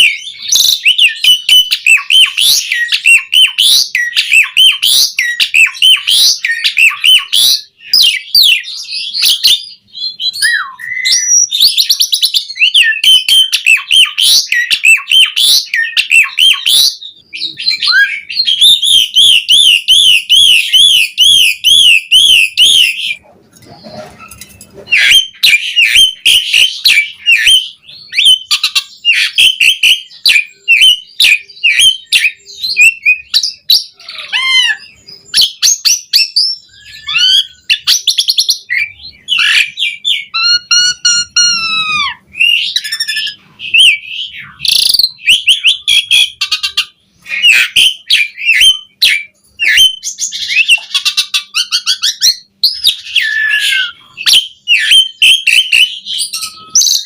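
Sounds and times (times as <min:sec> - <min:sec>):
starling singing: 0:00.0 - 0:57.0.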